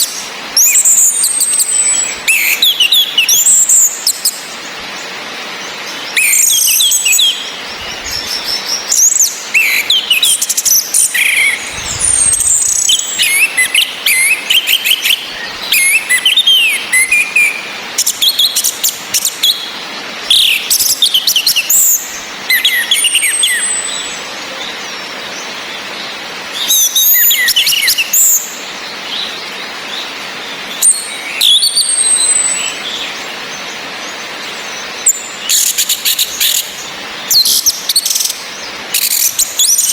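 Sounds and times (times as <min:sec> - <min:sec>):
rain hissing: 0:00.0 - 0:39.9
thrushes calling and singing: 0:00.0 - 0:39.9.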